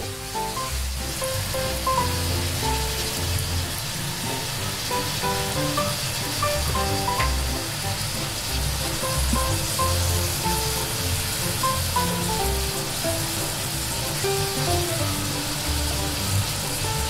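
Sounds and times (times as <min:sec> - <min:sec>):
background music with bass line: 0:00.0 - 0:17.0
fish sizzling in a pot: 0:00.0 - 0:17.0
sauce being poured: 0:00.3 - 0:16.9.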